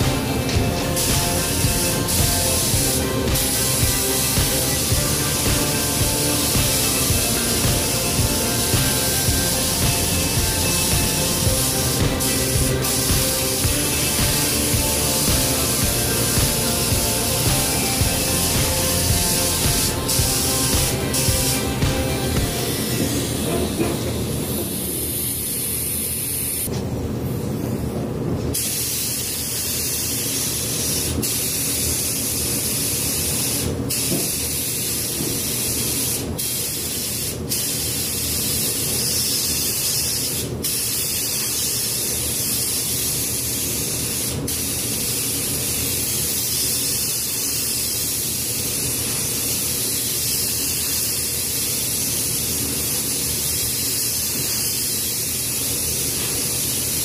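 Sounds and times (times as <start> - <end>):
spray gun hissing: 0.0 - 26.7, 28.6 - 57.0.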